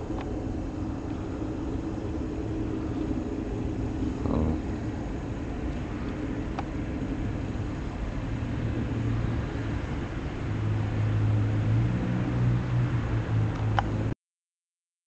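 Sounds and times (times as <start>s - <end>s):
background hiss: 0.0s - 14.2s
low hum: 0.0s - 14.2s
steady low rumble: 0.0s - 14.2s.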